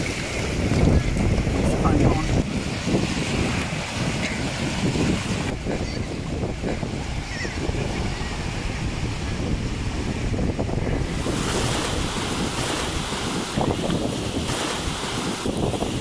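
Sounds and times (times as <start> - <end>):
surf washing on shore: 0.0 - 16.0
wind buffeting microphone: 0.0 - 16.0.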